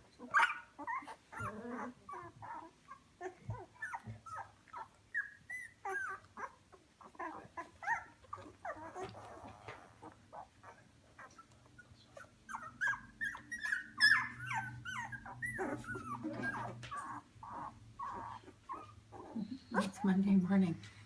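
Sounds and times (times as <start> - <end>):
puppies whimpering and squeaking: 0.1 - 20.2.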